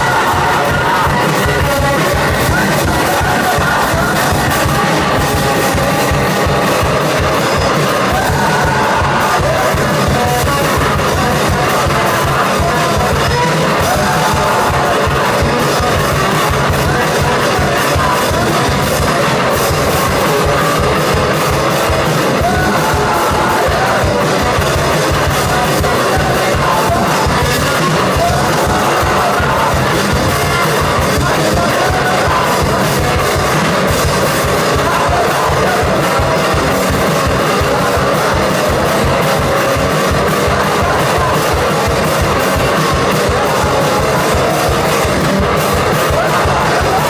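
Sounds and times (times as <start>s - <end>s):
drum kit: 0.0s - 47.0s
electric guitar: 0.0s - 47.0s
man singing: 0.0s - 47.0s.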